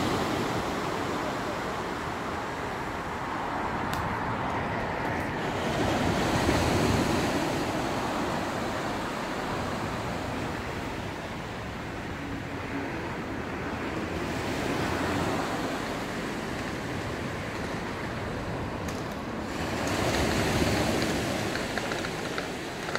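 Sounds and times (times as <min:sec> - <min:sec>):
small waves washing up beach: 0:00.0 - 0:22.9.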